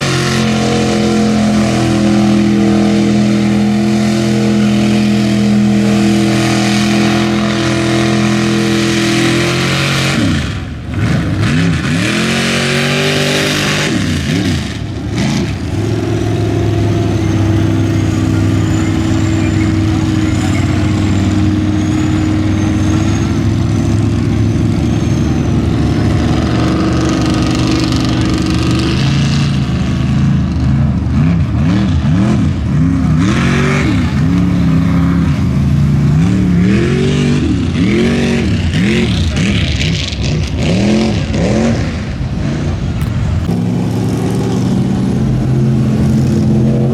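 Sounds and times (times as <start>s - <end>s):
truck engine at high revs: 0.0s - 46.9s.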